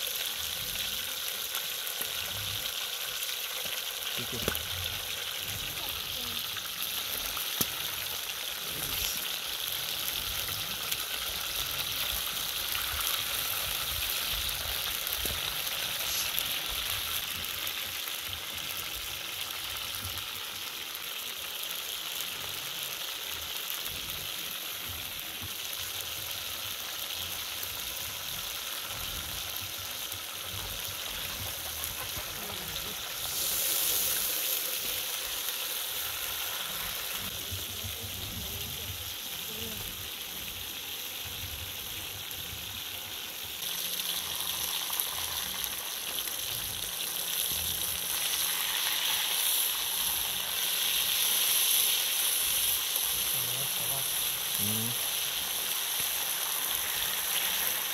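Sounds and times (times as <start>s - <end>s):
steaks sizzling in hot oil: 0.0s - 57.9s.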